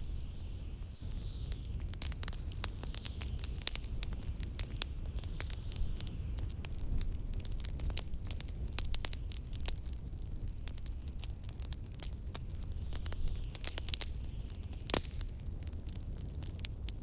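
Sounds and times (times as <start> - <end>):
low rumble of blizzard wind: 0.0 - 17.0
wood fire crackling and popping: 0.0 - 17.0.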